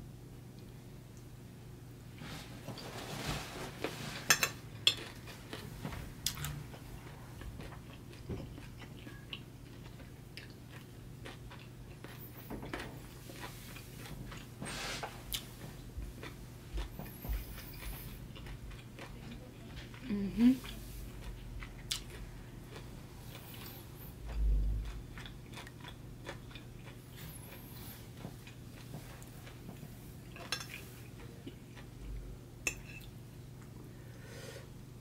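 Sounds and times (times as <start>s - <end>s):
chewing and wet mouth sounds: 4.4s - 33.8s.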